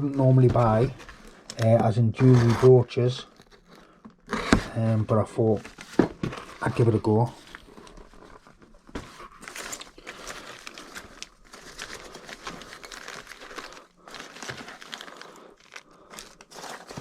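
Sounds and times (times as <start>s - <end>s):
packaging crinkling and rustling: 0.1s - 17.0s.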